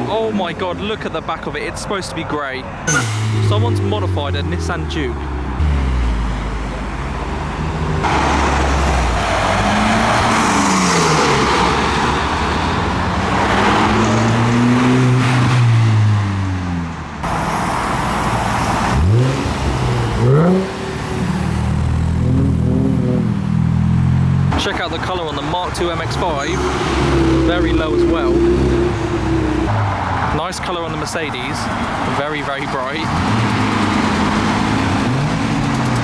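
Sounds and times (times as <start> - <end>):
car engine revving: 2.9 - 36.0
cars driving past slowly: 3.0 - 36.0.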